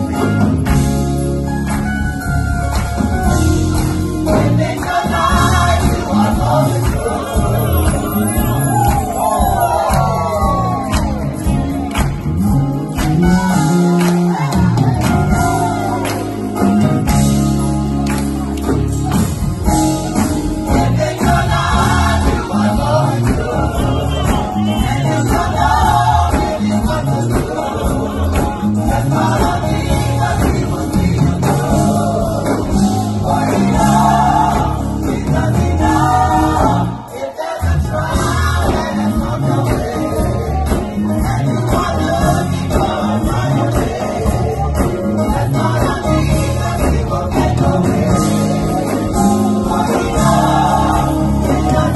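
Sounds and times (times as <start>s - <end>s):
bass line: 0.0s - 37.1s, 37.7s - 51.9s
gospel choir singing: 0.0s - 51.9s
guitar: 0.0s - 51.9s
percussion: 0.0s - 51.9s.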